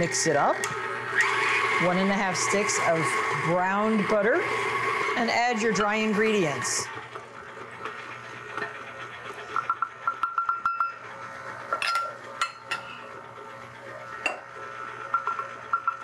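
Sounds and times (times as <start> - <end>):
stand mixer humming: 0.0 - 16.0.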